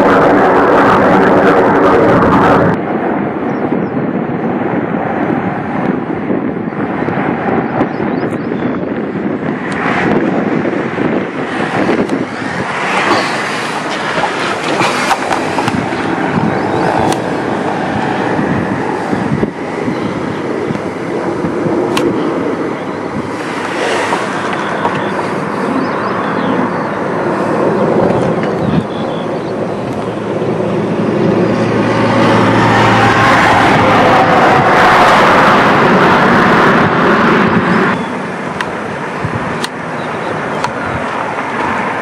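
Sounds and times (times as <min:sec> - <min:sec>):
helicopter rotor and turbine rumble: 0:00.0 - 0:42.0.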